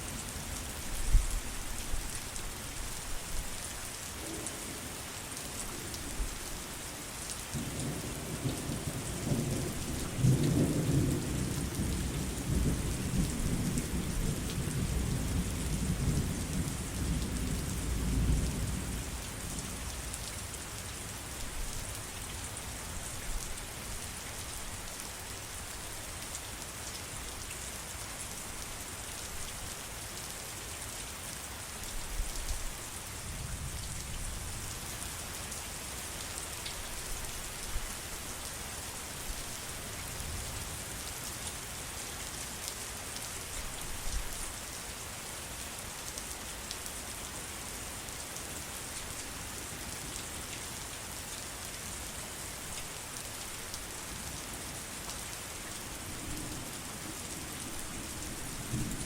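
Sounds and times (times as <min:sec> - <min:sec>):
heavy rain on surfaces: 0:00.0 - 0:59.0.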